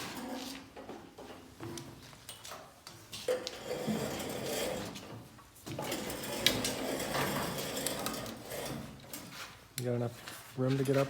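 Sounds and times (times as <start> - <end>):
rustling and clattering handling: 0.0 - 11.0.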